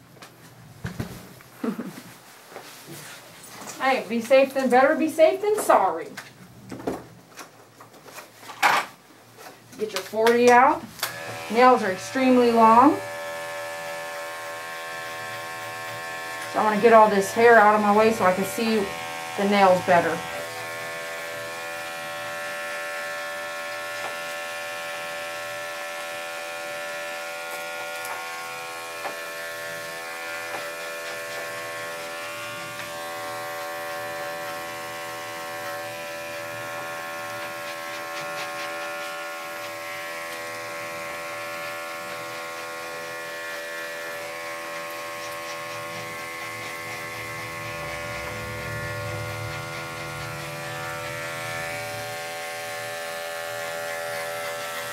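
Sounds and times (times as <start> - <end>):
electric clippers buzzing: 10.3 - 54.9.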